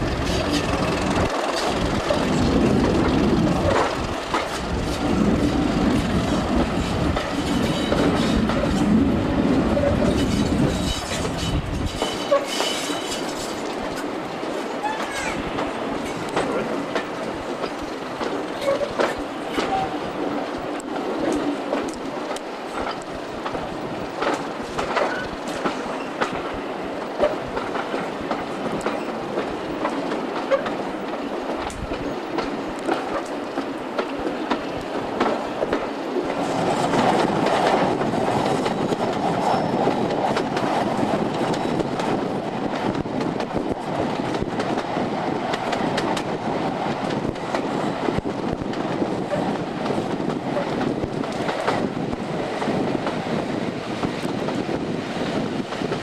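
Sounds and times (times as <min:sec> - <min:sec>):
wheels clicking over rail joints: 0:00.0 - 0:53.4
train running noise: 0:00.0 - 0:56.0.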